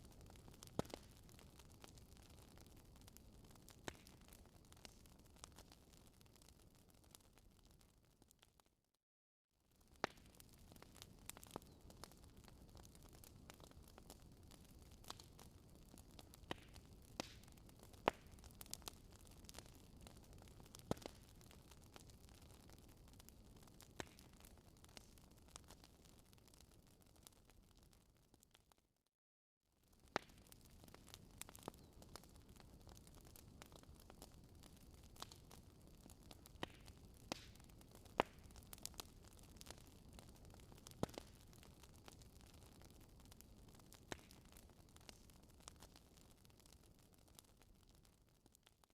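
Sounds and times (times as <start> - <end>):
wood fire crackling: 0.0 - 8.7, 9.7 - 28.8, 29.8 - 48.9.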